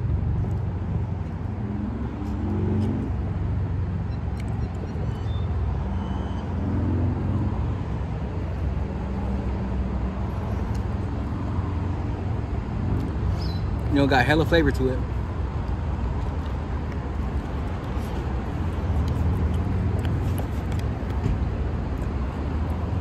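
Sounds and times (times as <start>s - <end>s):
cars passing rumble: 0.0s - 23.0s.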